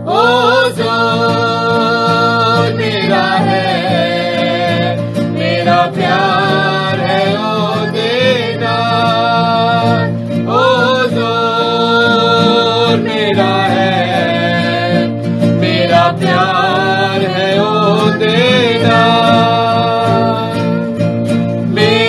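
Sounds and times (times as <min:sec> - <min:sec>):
person singing long held notes: 0:00.0 - 0:21.0
plucked strings: 0:00.0 - 0:22.0.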